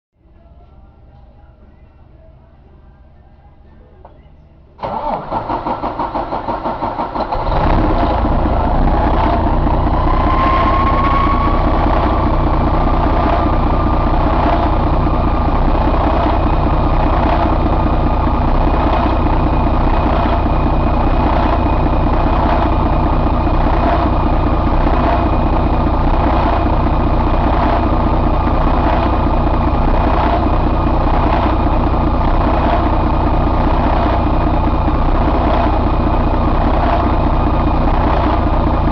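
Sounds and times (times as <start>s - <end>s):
engine whine: 0.2s - 38.9s
diesel engine starting and idling: 4.8s - 38.9s.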